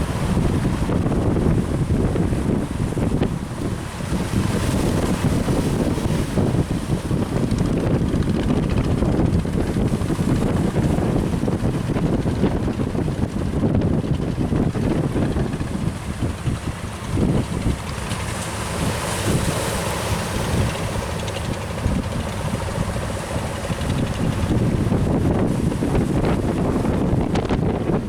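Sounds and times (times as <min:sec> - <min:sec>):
strong wind on microphone: 0:00.0 - 0:28.0.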